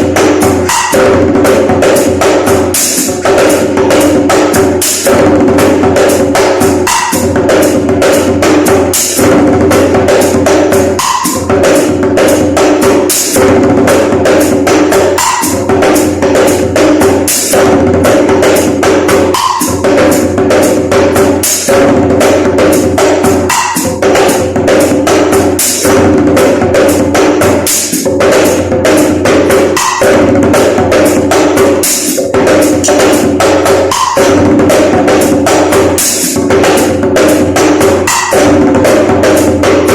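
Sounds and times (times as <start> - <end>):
djembe played by hand: 0.0 - 39.9.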